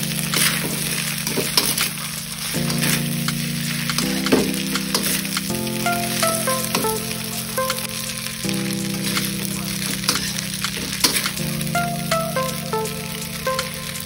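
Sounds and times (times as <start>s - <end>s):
background music: 0.0s - 14.0s
noodles sizzling in a wok: 0.0s - 14.0s.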